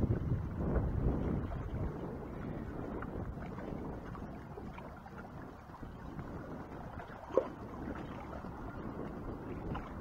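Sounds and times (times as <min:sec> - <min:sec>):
sea water against rocks: 0:00.0 - 0:10.0
wind buffeting microphone: 0:00.0 - 0:10.0.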